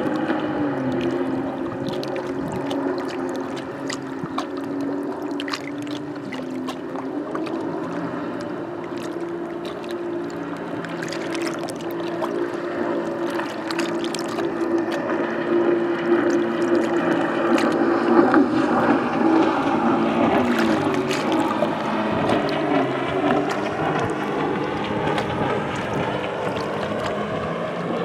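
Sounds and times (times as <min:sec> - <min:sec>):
motorboat engine running: 0:00.0 - 0:28.0
waves lapping against shore: 0:00.0 - 0:28.0.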